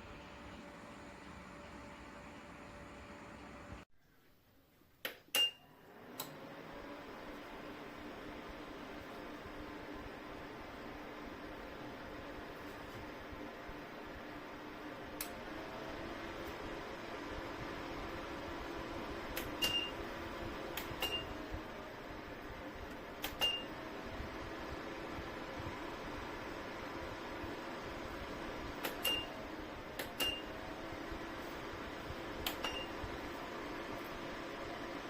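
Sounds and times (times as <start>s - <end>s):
faint hum: 0.0s - 35.0s
fan heater airflow hiss: 6.0s - 35.0s.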